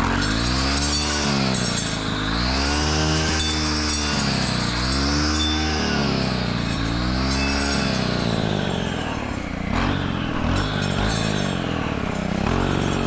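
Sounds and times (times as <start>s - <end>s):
blade cutting through brush: 0.0s - 13.0s
brush cutter engine running: 0.0s - 13.0s.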